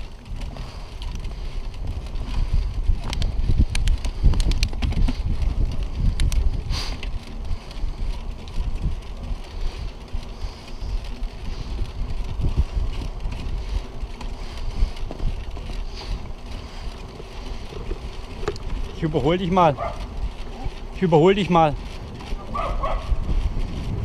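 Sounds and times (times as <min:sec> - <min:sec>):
rumbling road noise: 0:00.0 - 0:24.0
wind buffeting microphone: 0:00.0 - 0:24.0.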